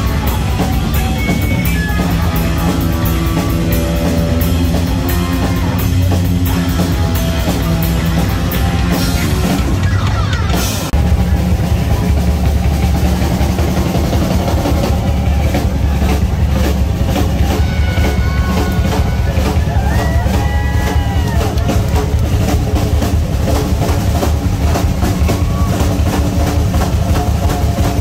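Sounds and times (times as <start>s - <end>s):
live heavy metal band: 0.0s - 28.0s.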